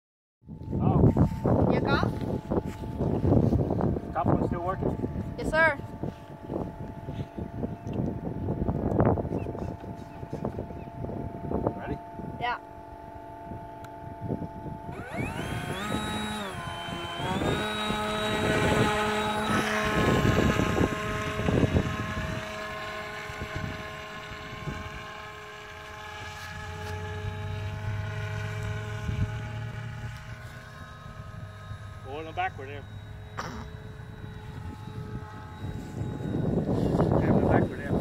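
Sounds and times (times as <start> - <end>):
wind on microphone: 0.4 - 38.0
model plane motor whine: 0.5 - 38.0.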